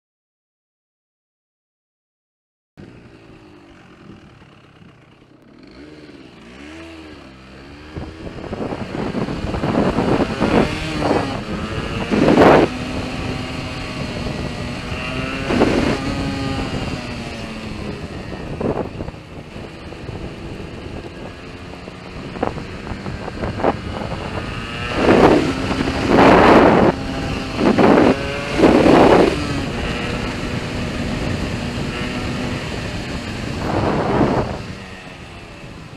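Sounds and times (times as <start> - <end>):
two-stroke engine idling and revving: 2.8 - 35.9.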